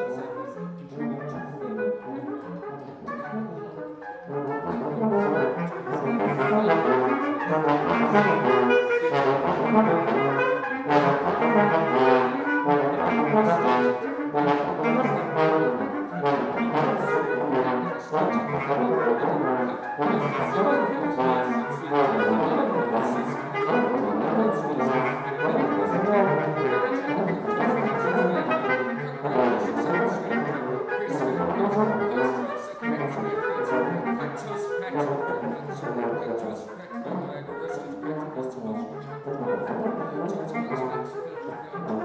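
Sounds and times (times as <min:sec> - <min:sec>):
brass and clarinet chamber music: 0:00.0 - 0:42.0.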